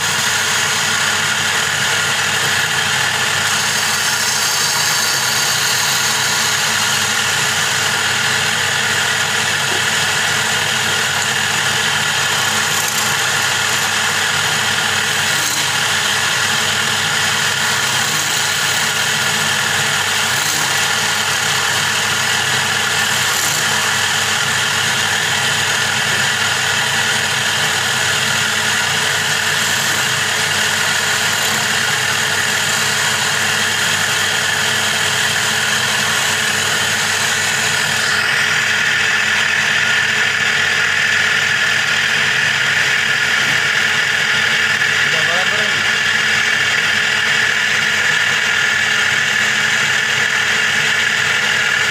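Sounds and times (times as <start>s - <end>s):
tool scraping spinning wood: 0.0s - 51.9s
wood lathe motor humming: 0.0s - 51.9s.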